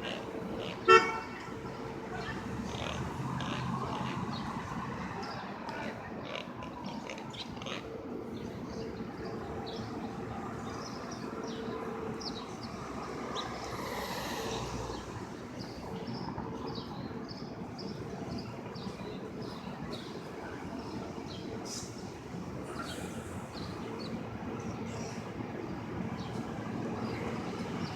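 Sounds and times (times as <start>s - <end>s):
city traffic hum: 0.0s - 27.9s.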